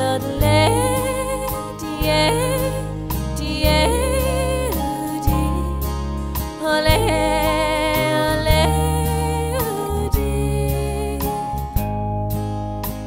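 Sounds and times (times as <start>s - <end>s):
singer holding wordless notes: 0.0s - 11.7s.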